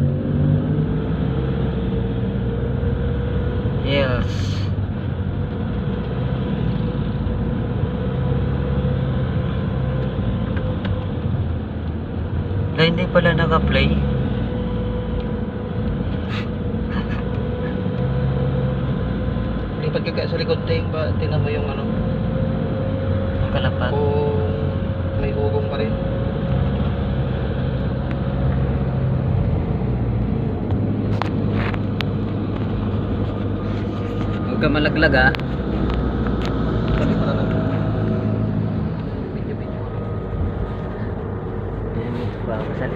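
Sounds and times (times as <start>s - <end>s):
engine and road noise: 0.0s - 42.9s.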